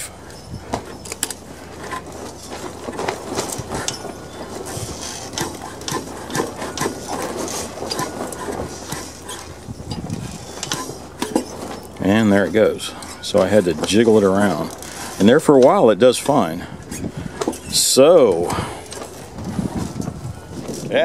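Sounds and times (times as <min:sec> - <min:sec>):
engine flywheel clicks and knocks: 0:00.0 - 0:21.0.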